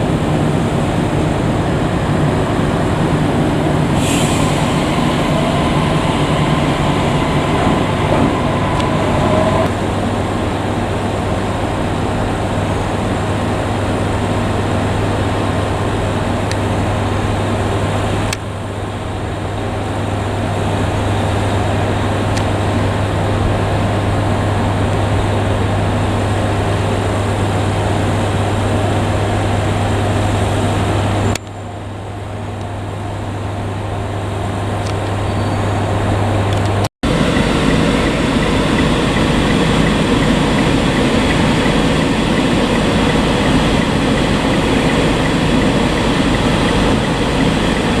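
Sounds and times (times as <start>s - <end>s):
diesel railcar engine hum: 0.0s - 48.0s
train rumbling: 0.0s - 48.0s.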